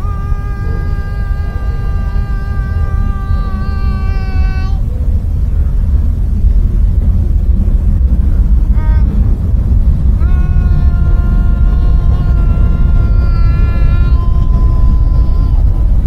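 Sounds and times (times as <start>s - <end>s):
heavy low rumble: 0.0s - 16.0s.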